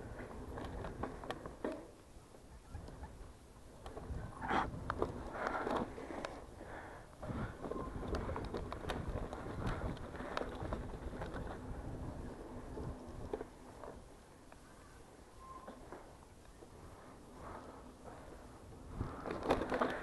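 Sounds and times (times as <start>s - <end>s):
bike rattling over bumps: 0.0s - 2.4s, 3.1s - 14.4s, 15.5s - 20.0s
bike tyres crunching over dirt: 0.0s - 2.4s, 3.6s - 20.0s.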